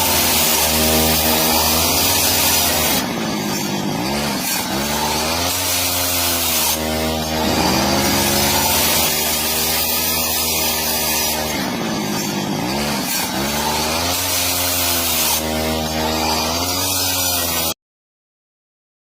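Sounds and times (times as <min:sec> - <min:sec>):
power tool cutting wood: 0:00.0 - 0:17.8.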